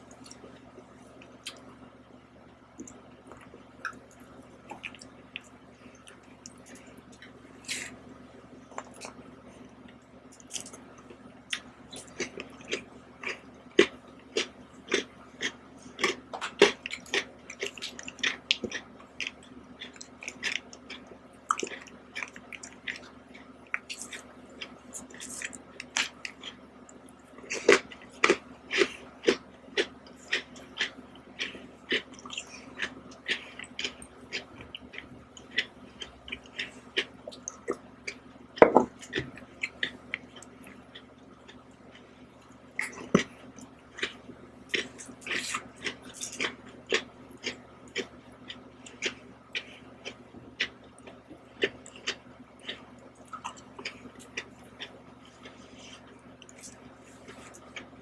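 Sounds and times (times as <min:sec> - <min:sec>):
wet smacks and chewing: 0:01.2 - 0:01.7, 0:02.8 - 0:08.0, 0:09.8 - 0:38.2, 0:42.8 - 0:58.0
person eating ice cream: 0:02.8 - 0:58.0.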